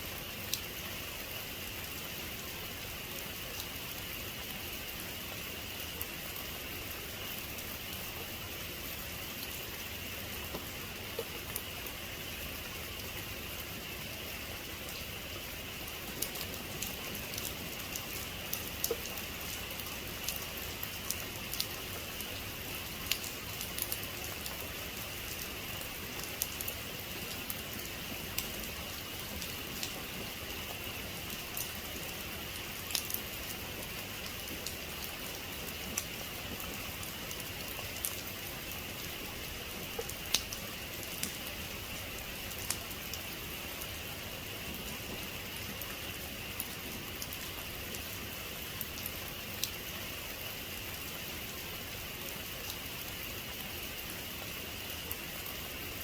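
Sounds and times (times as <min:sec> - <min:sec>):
raindrops ticking on a surface: 0:00.0 - 0:56.0.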